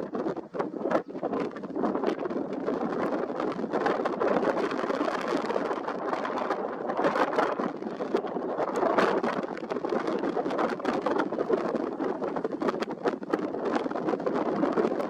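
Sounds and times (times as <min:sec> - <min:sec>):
strong wind through reeds: 0:00.0 - 0:15.0.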